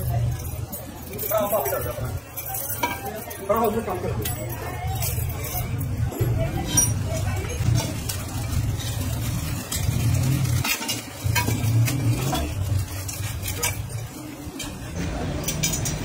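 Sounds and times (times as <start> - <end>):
wire spokes clinking against rim: 0.0 - 16.0.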